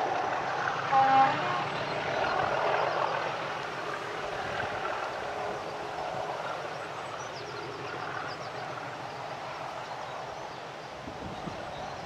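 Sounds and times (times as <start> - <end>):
distant diesel train running: 0.0 - 12.0.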